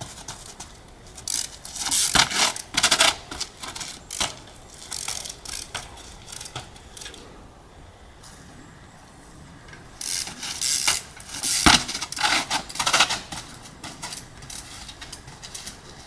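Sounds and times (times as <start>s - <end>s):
bike parts rattling: 0.0s - 7.2s, 9.6s - 16.0s.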